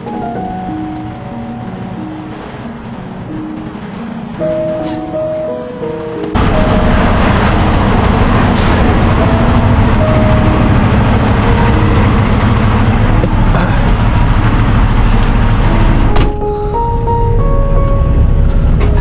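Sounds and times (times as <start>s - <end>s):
road noise: 0.0s - 19.0s
truck diesel engine: 0.0s - 19.0s.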